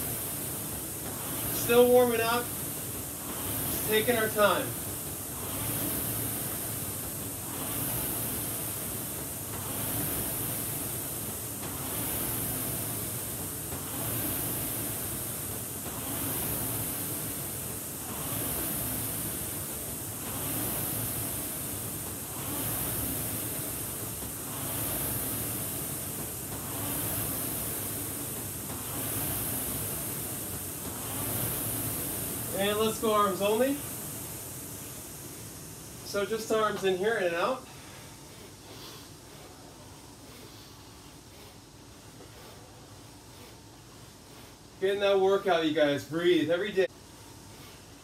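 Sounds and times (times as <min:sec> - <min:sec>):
rowing machine flywheel whooshing: 0:00.0 - 0:48.0.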